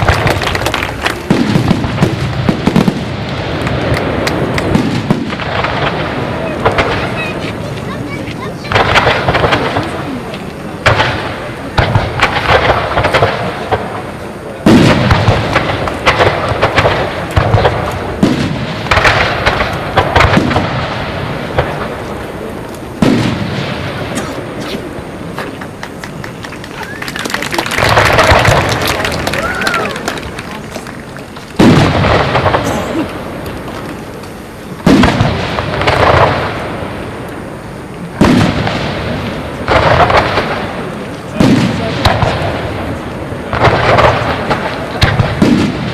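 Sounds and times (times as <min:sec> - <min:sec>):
fireworks bangs and crackling: 0:00.0 - 0:45.9
heavy fireworks booms: 0:00.0 - 0:45.9.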